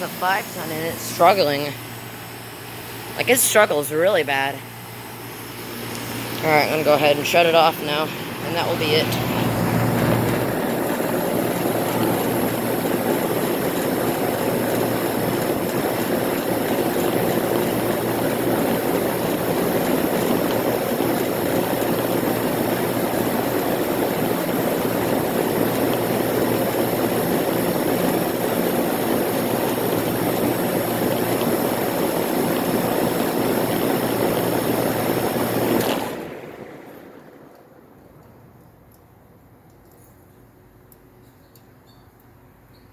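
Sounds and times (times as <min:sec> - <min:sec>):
air conditioner unit running: 0:00.0 - 0:42.9.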